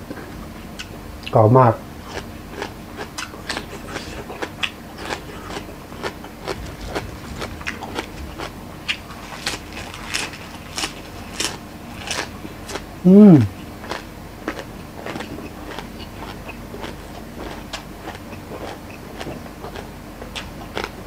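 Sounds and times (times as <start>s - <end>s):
crunchy vegetables being chewed: 0.0s - 21.0s.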